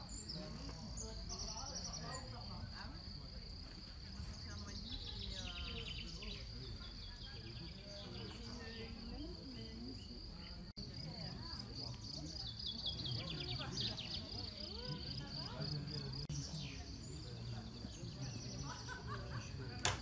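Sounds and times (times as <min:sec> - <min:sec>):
distant voices murmuring: 0:00.0 - 0:20.0.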